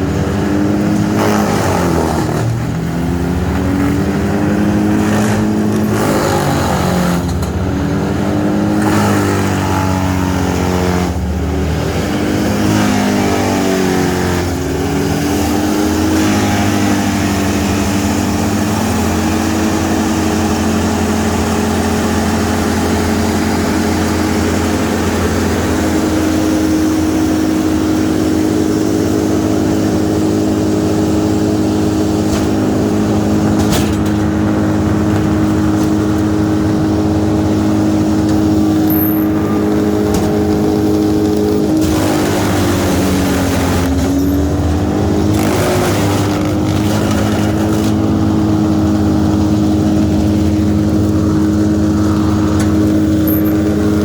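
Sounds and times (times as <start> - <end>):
large engine running loud: 0.0 - 54.0.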